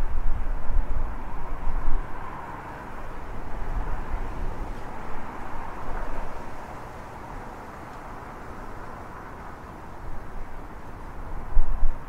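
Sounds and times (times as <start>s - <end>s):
wind buffeting microphone: 0.0s - 12.0s
wind gusting through branches: 0.0s - 12.0s.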